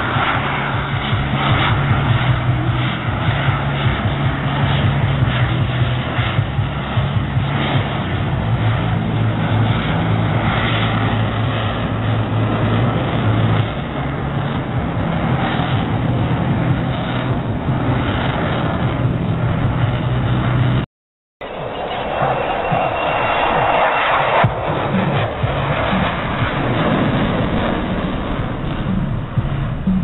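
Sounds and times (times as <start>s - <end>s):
distant jet engine rush: 0.0s - 30.0s
low hum: 0.0s - 30.0s.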